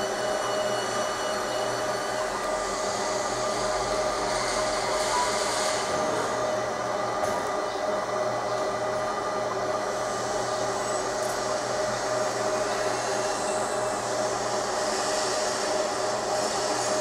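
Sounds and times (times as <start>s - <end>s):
fan hum: 0.0s - 17.0s
steady machine tones: 0.0s - 17.0s.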